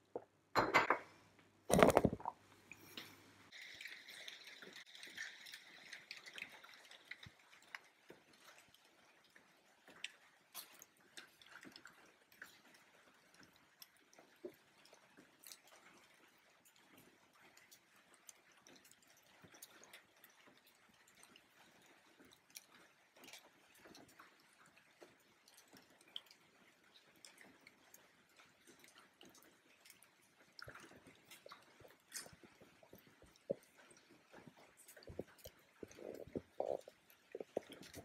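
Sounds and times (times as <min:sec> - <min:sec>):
small clicks and ticks: 0:02.7 - 0:38.0.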